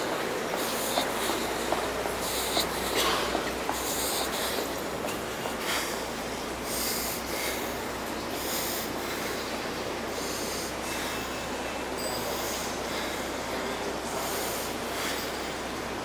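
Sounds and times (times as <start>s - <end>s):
subway station rumble: 0.0s - 16.0s.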